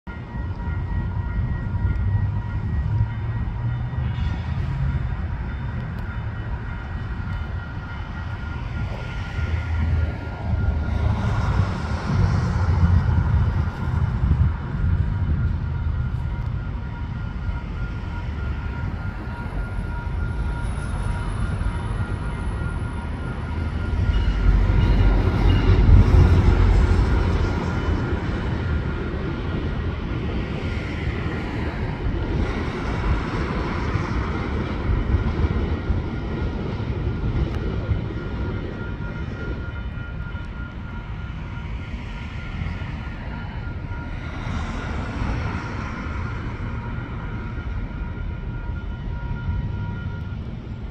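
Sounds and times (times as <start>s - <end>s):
road traffic: 0.1s - 50.9s
train rumbling past: 0.1s - 50.9s.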